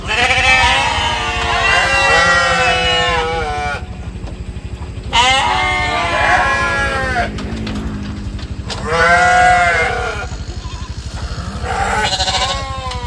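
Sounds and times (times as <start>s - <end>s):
low pulsing rumble: 0.0s - 12.4s
goats bleating: 0.0s - 13.0s.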